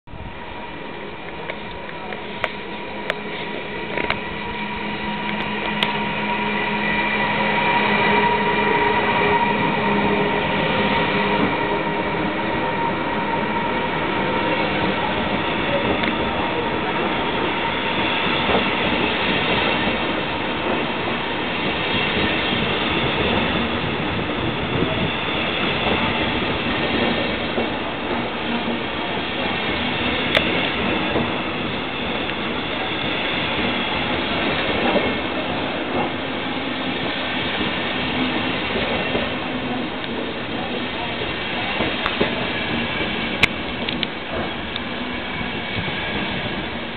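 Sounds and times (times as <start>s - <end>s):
train wheels rumbling on rails: 0.1s - 46.9s.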